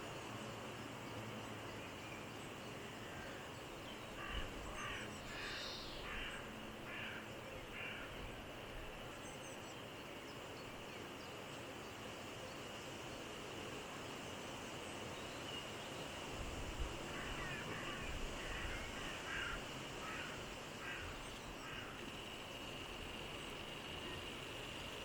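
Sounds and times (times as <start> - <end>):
outdoor hiss: 0.0 - 25.0.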